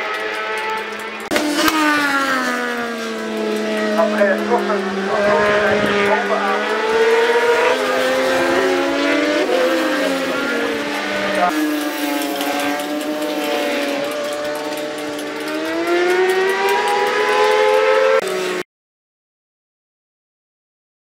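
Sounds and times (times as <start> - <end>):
racing motorcycle engines revving: 0.0 - 18.6.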